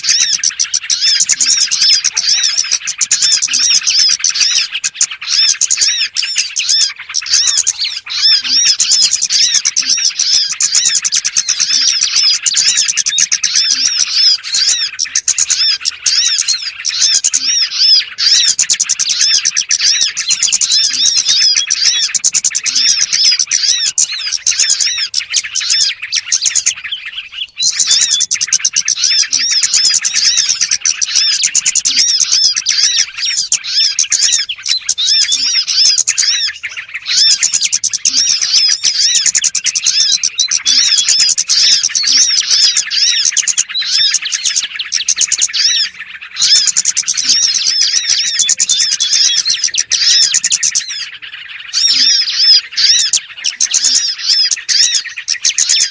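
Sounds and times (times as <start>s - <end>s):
small birds chirping and twittering: 0.0s - 55.9s.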